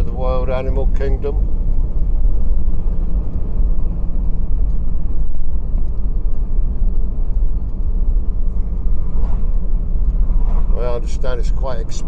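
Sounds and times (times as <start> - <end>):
car engine: 0.0 - 12.0.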